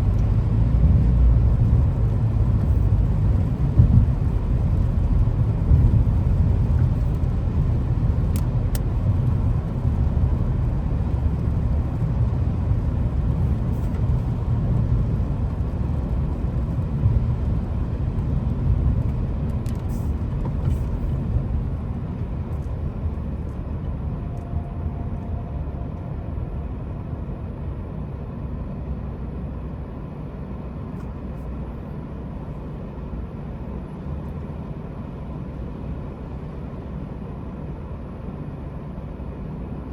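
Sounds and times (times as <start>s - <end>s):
low rumble of road vehicles: 0.0s - 39.9s.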